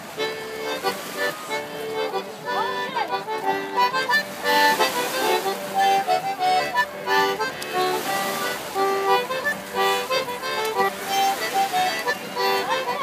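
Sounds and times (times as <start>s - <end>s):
accordion dance tune: 0.0s - 13.0s.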